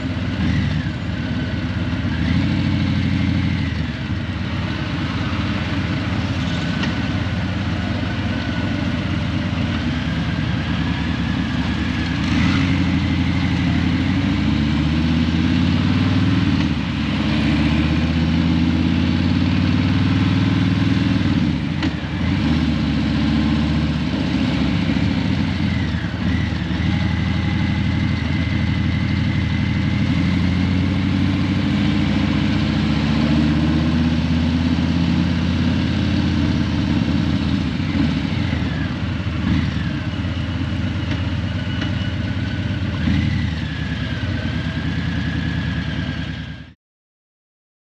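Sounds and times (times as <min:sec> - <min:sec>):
motorcycle engine at low revs: 0:00.0 - 0:46.8.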